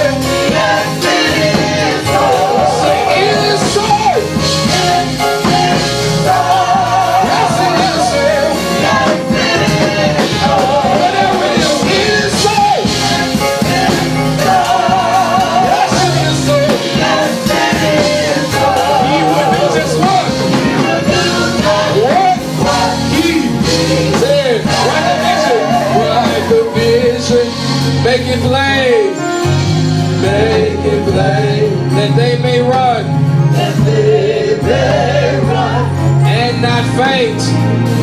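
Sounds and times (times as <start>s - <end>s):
band playing gospel music: 0.0s - 38.0s.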